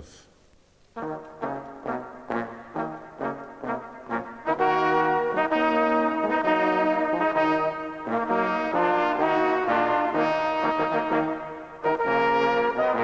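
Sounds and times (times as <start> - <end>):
brass instruments playing chords: 0.9 - 13.0.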